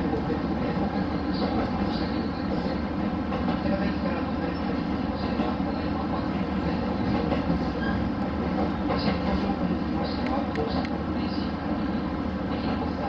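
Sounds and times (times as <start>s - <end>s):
diesel railcar rumbling on track: 0.0s - 13.0s.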